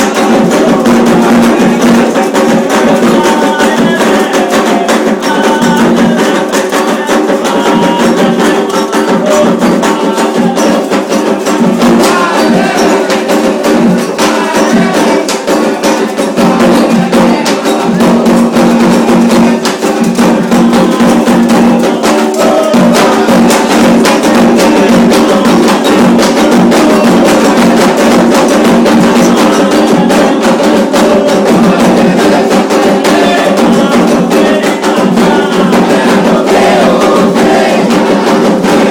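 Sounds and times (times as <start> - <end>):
hand drums: 0.0 - 38.9
wood block-like percussion: 0.0 - 38.9.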